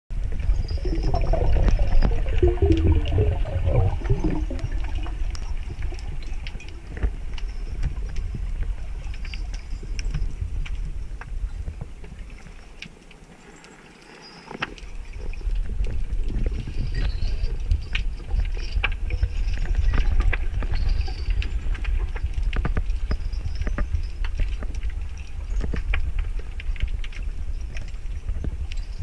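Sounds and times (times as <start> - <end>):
underwater rumble and gurgling: 0.1 - 29.0.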